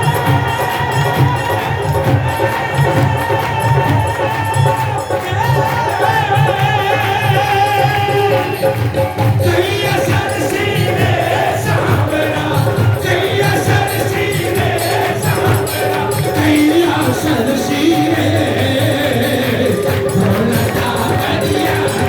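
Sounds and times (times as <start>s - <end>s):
crowd singing along: 0.0s - 22.0s
devotional singing: 0.0s - 22.0s
percussion beat: 0.0s - 22.0s.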